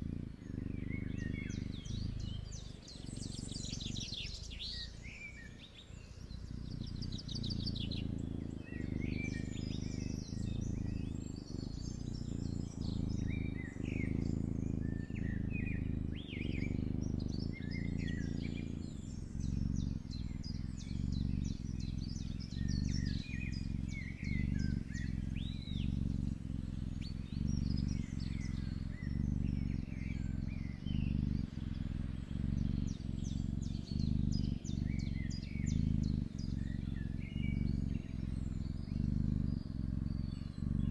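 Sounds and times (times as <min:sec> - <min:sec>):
birds chirping: 0:00.0 - 0:40.9
kitten purring: 0:00.0 - 0:40.9.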